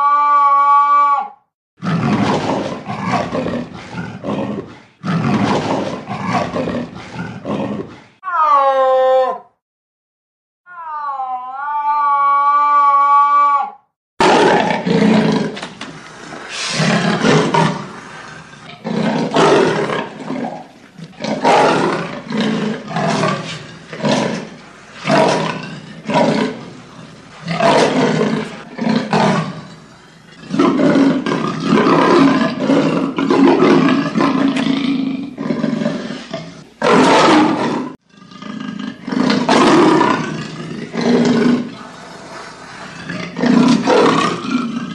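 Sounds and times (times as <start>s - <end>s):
leopard rasping roars: 1.8s - 8.2s, 14.2s - 44.9s.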